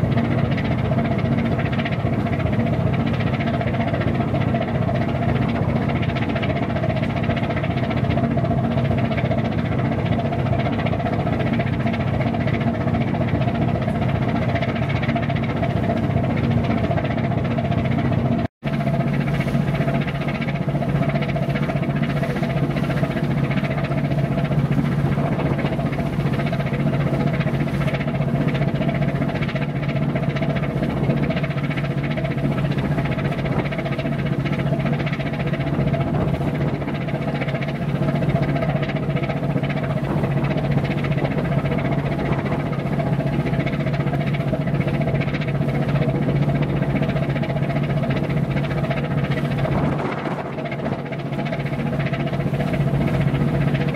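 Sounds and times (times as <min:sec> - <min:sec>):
ship diesel engine droning: 0:00.0 - 0:53.9.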